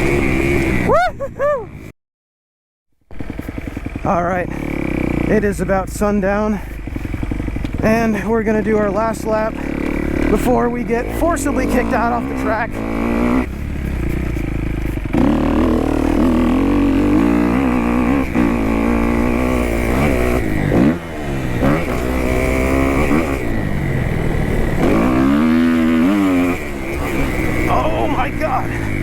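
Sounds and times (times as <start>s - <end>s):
dirt bike engine revving: 0.0s - 1.0s, 3.1s - 29.0s.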